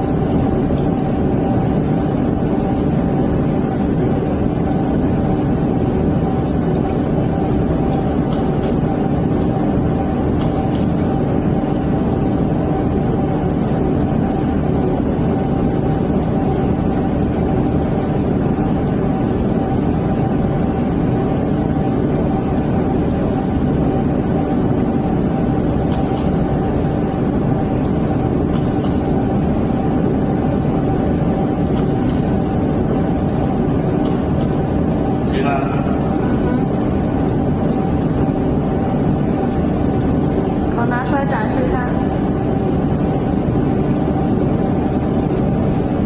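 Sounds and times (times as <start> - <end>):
steady mechanical hum: 0.0 - 46.0.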